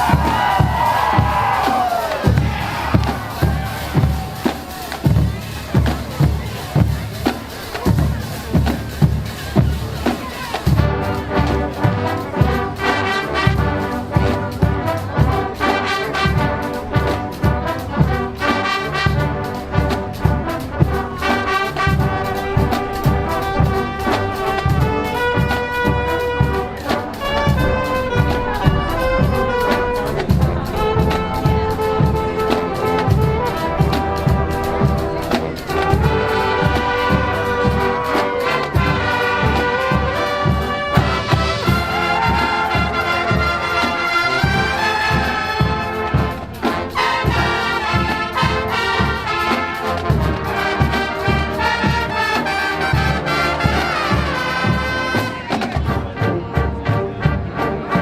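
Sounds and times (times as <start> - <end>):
brass section playing chords: 0.0 - 58.0
drumline beating: 0.0 - 58.0.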